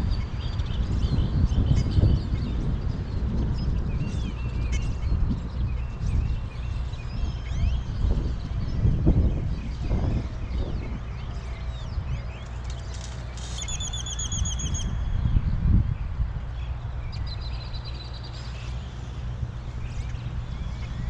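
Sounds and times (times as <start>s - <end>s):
birds singing: 0.0s - 21.0s
steady low rumble: 0.0s - 21.0s.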